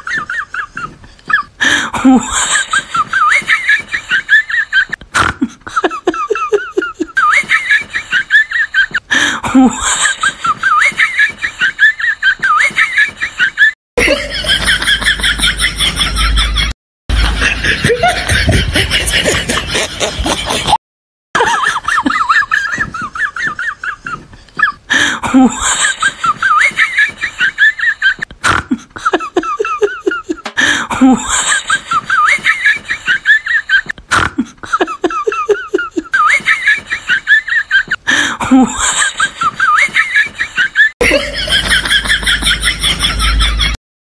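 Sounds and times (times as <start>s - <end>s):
high-pitched comic laughter: 0.0s - 20.8s, 21.4s - 43.8s.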